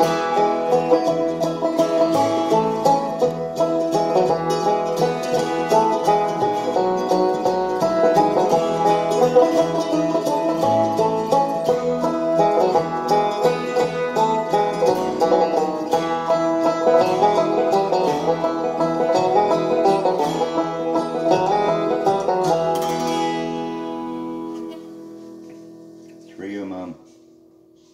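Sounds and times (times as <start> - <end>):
acoustic guitar picking: 0.0 - 27.9.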